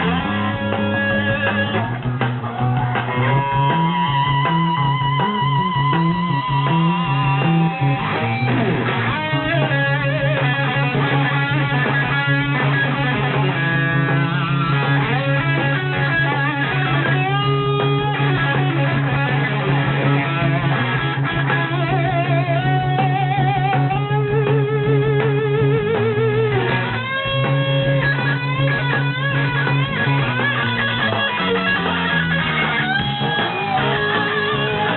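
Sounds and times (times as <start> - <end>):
electric guitar lead: 0.0 - 34.9.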